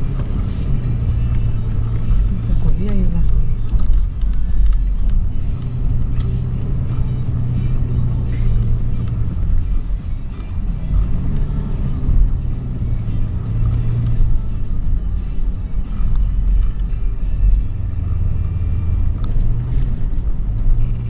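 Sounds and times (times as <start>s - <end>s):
suv engine low drone: 0.0s - 21.0s.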